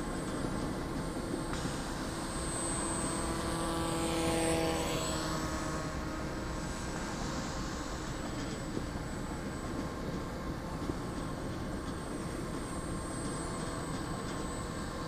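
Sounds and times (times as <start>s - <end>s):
model plane propeller whining: 0.0s - 15.0s.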